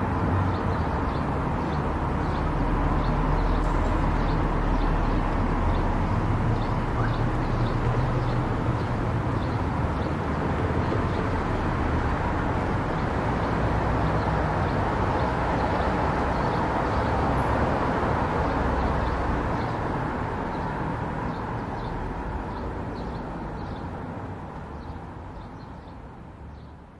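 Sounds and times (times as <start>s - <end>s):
car road and engine noise: 0.0s - 26.9s.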